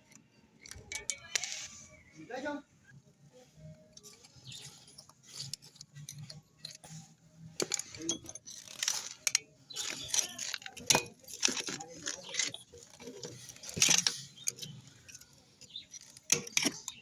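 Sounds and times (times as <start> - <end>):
metal tools clinking: 0.0 - 1.9, 3.7 - 17.0
rustling: 0.8 - 17.0.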